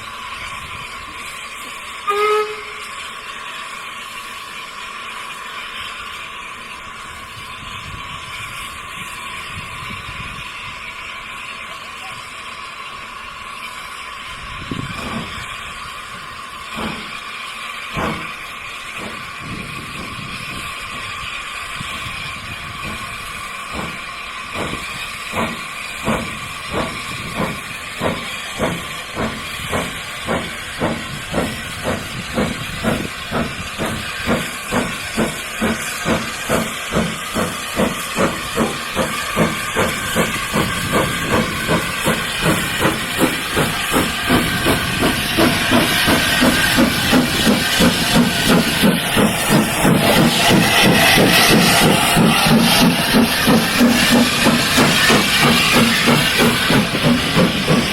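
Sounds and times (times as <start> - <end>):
steam hissing: 0.0 - 57.9
steam locomotive chuffing: 0.0 - 57.9.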